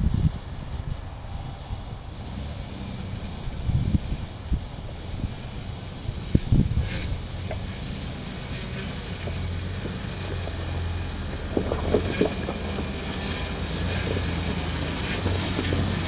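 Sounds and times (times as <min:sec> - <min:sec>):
truck engine idling: 0:00.2 - 0:16.0.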